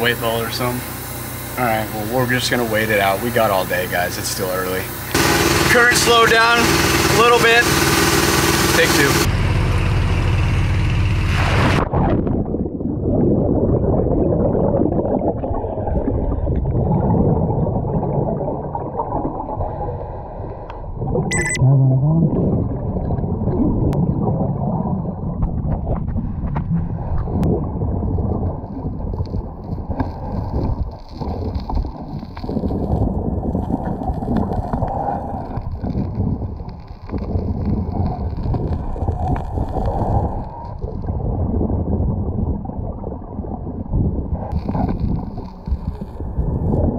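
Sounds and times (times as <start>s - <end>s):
underwater rushing and bubbles: 0.0s - 46.9s.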